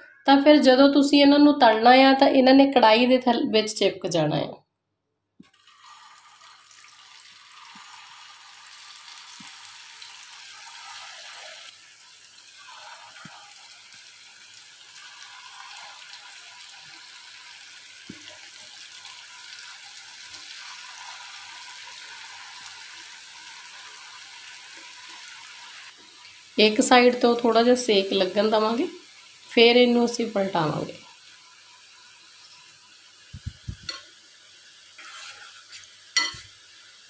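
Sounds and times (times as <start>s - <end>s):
potatoes sizzling in hot oil: 5.5s - 37.0s.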